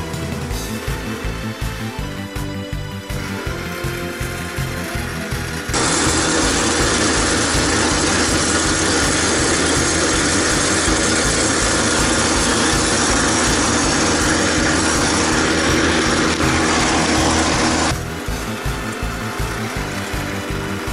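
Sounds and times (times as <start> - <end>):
small petrol engine running: 0.0 - 20.9.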